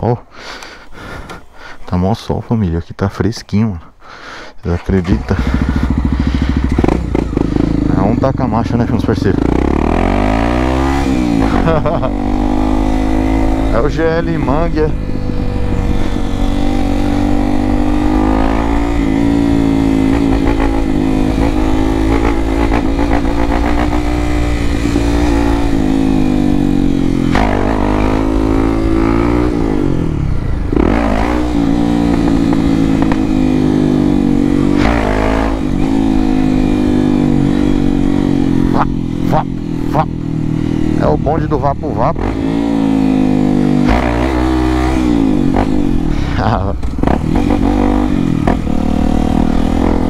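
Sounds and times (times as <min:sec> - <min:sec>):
motorcycle engine revving: 0:04.8 - 0:50.0.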